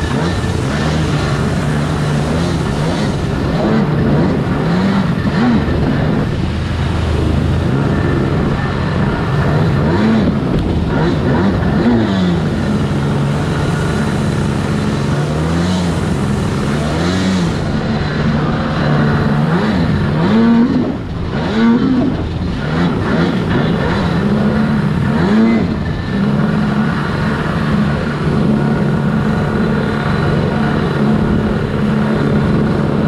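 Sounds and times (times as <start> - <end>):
jet ski engine revving: 0.0 - 33.0.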